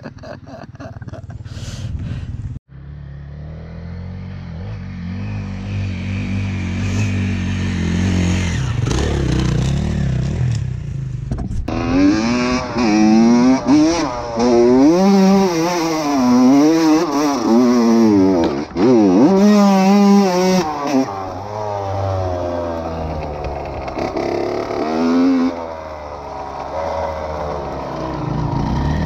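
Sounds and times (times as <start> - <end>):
dirt bike engine running: 0.7 - 29.0
two-stroke engine revving: 3.4 - 10.9, 11.7 - 29.0.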